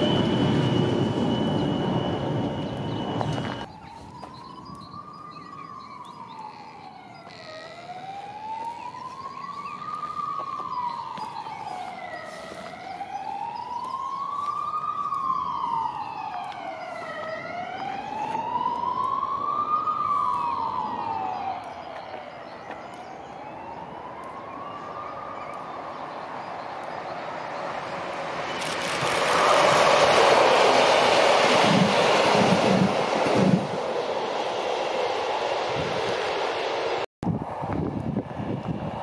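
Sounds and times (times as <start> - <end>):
wailing siren: 0.0 - 39.0.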